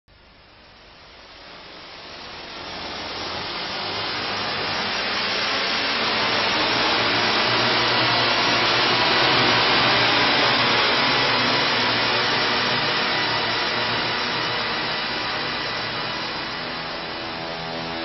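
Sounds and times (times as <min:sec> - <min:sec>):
electronic noise swell: 0:01.3 - 0:18.0.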